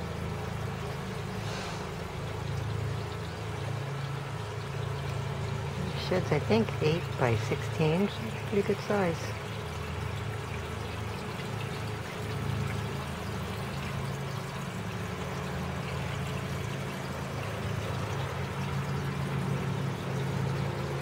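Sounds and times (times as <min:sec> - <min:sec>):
faint trickling water: 0:00.0 - 0:21.0.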